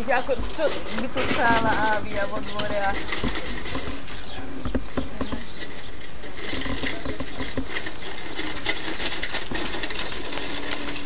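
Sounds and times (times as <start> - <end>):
hand cart rattling: 0.0 - 11.0.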